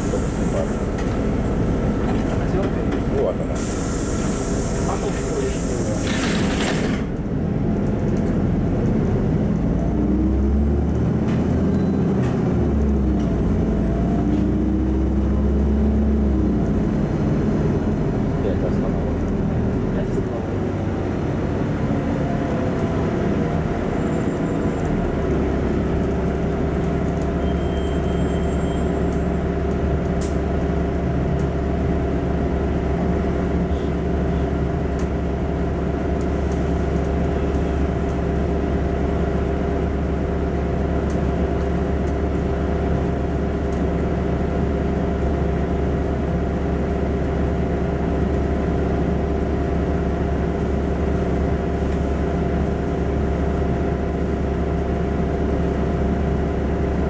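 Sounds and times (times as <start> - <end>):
bus engine droning: 0.0 - 57.0.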